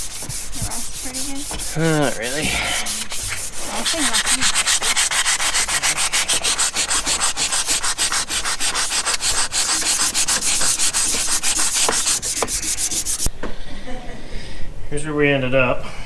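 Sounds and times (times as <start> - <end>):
hand sanding strokes: 0.0 - 13.3.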